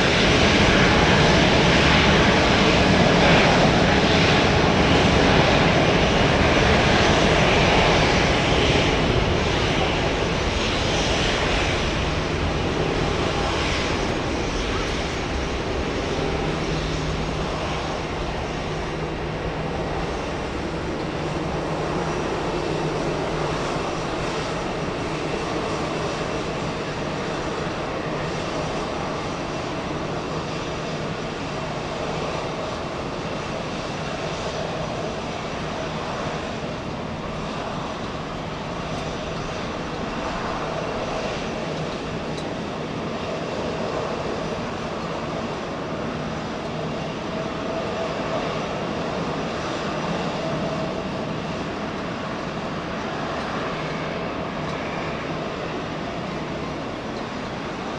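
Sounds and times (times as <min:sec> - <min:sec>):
jet engines humming: 0:00.0 - 0:57.9.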